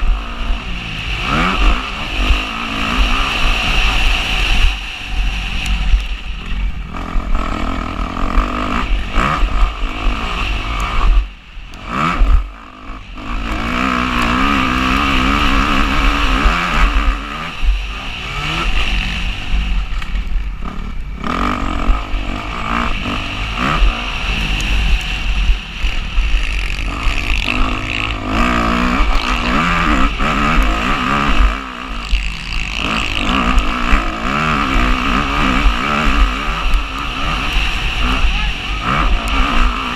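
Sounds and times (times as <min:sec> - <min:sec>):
dirt bike engine revving: 0:00.0 - 0:39.9
wind rumble on microphone: 0:00.0 - 0:39.9.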